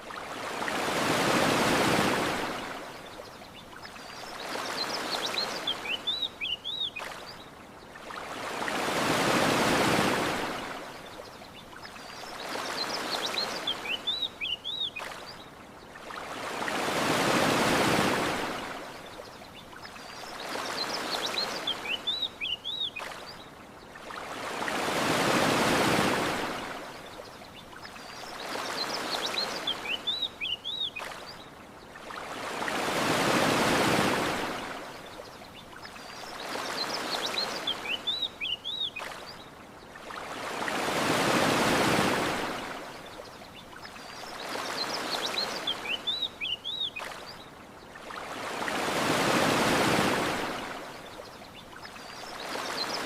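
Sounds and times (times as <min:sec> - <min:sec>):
ocean waves on shore: 0:00.0 - 0:53.0.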